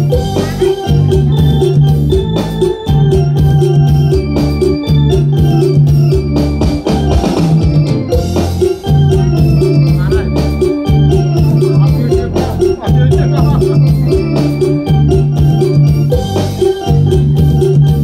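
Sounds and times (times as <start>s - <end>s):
drum and percussion beat: 0.0s - 18.0s
electronic keyboard organ sound: 0.0s - 18.0s
repeating bass line: 0.0s - 18.0s.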